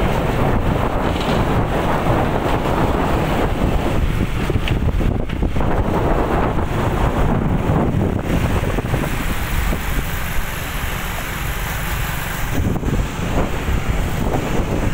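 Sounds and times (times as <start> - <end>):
cars and motorbikes passing: 0.0 - 14.9
wind buffeting microphone: 0.0 - 14.9.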